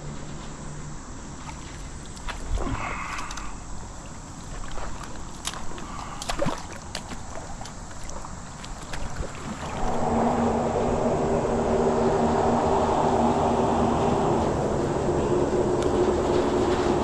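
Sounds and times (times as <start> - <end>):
mechanical rumble with low hum: 0.0 - 17.0.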